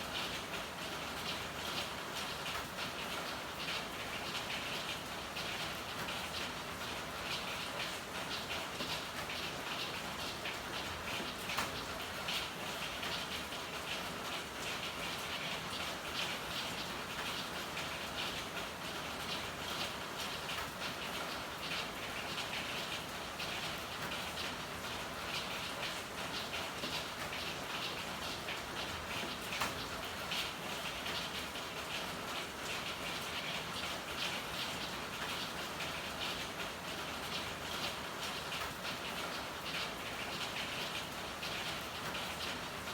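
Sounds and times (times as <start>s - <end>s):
rain patter: 0.0s - 42.9s.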